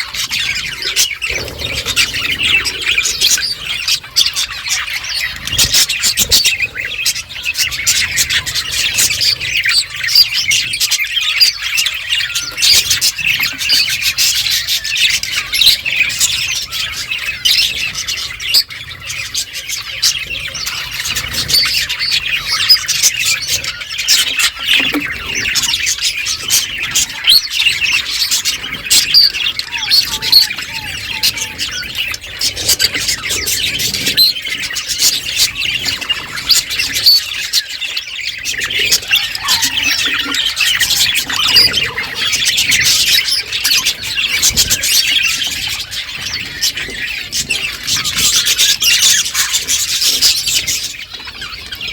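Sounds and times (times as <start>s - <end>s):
budgerigars chattering and chirping: 0.0s - 51.9s.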